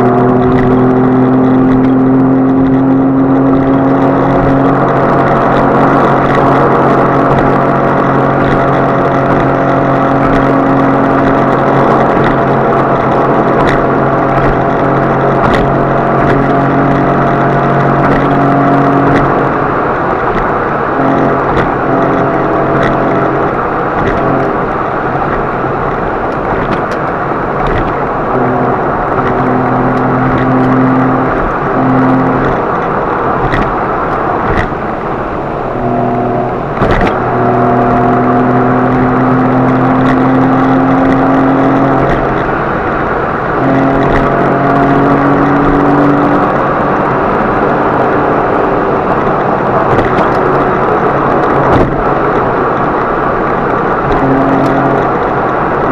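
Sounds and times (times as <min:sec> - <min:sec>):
car engine droning: 0:00.0 - 0:55.9
road noise: 0:00.0 - 0:55.9.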